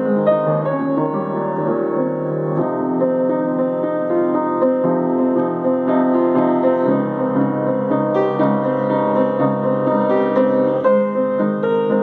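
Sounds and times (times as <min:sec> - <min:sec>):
solo upright piano: 0:00.0 - 0:12.0.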